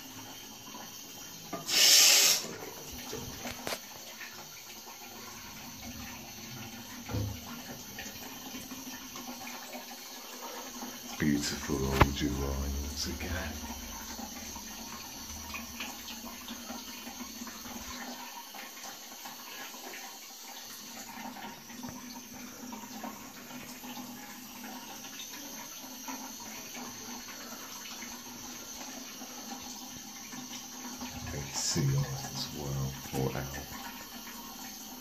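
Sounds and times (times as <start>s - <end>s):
water drips and splashes: 0.0s - 35.0s
water trickling in plumbing: 0.0s - 35.0s.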